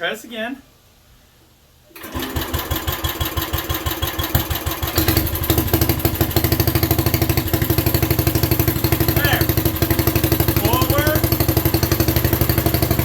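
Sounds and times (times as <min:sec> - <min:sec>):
single-cylinder engine running: 0:02.0 - 0:13.0.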